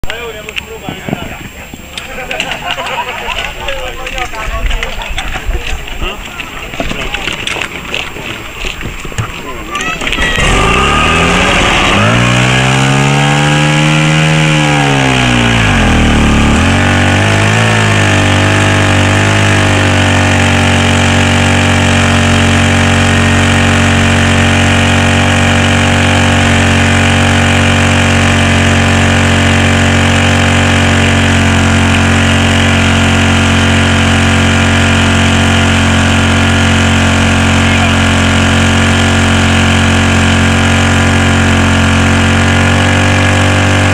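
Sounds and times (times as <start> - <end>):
pump petrol engine revving: 6.7 - 43.9.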